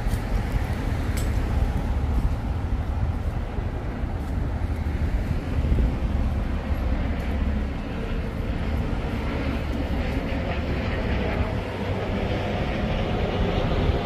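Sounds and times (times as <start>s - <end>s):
hissing tyre noise: 0.0s - 14.0s
vehicles passing on street: 0.0s - 14.0s.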